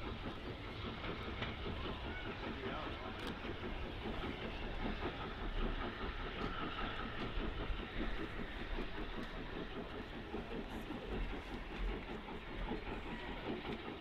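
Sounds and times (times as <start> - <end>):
steam locomotive chugging: 0.0 - 14.0.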